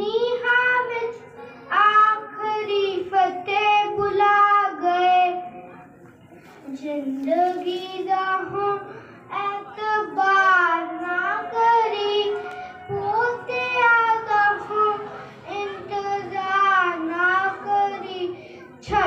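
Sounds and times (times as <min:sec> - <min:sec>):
boy singing into a microphone: 0:00.0 - 0:05.7, 0:06.6 - 0:19.0.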